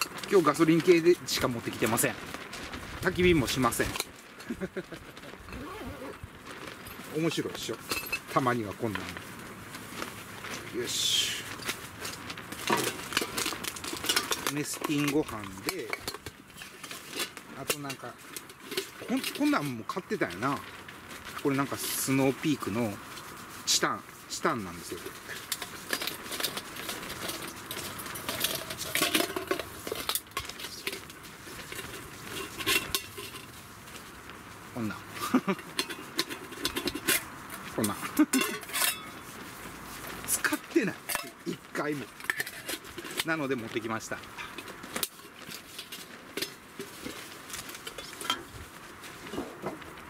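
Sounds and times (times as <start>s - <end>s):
metal pots clinking and clanking: 0.0s - 2.1s, 3.4s - 5.6s, 6.5s - 9.2s, 11.5s - 22.9s, 24.8s - 33.6s, 35.1s - 39.3s, 40.2s - 50.0s.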